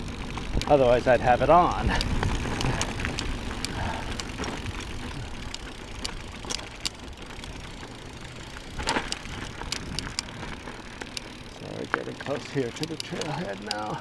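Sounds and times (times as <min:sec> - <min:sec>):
bike clicks and rattles: 0:00.0 - 0:14.0
bike tyres on dirt trail: 0:00.0 - 0:14.0.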